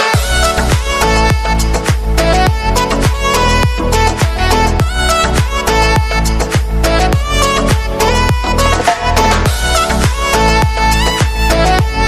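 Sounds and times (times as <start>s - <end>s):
melodic instrumental line: 0.0s - 12.0s
deep bass and kick drum: 0.2s - 12.0s.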